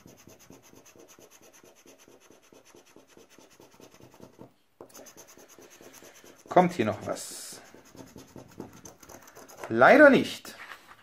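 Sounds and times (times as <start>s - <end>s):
scratching a scratch card: 0.0s - 6.8s, 7.6s - 9.8s.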